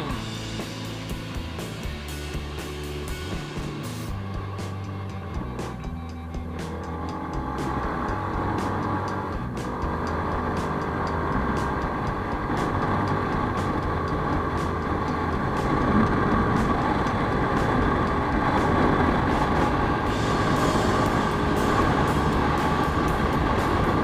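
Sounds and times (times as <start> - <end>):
background music with beat: 0.0 - 24.0
scooter road and wind noise: 0.0 - 24.0.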